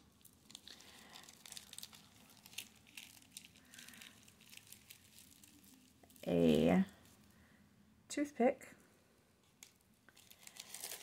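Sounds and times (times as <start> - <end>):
packaging rustling and crinkling: 0.0 - 7.3, 9.4 - 11.0.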